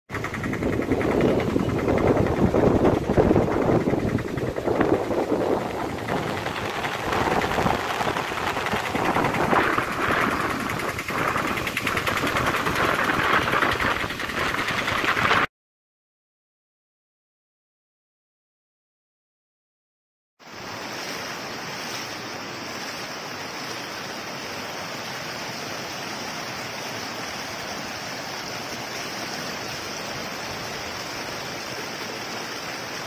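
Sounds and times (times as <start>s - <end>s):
floodwater rushing: 0.2s - 15.4s, 20.5s - 33.0s.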